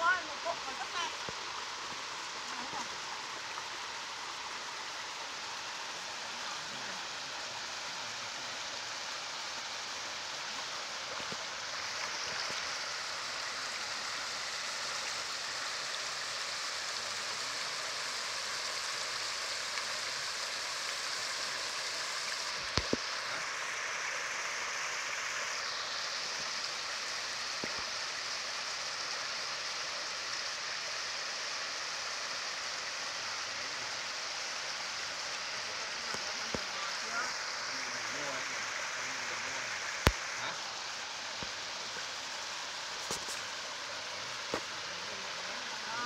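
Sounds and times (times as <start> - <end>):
stream babbling over pebbles: 0.0 - 46.0.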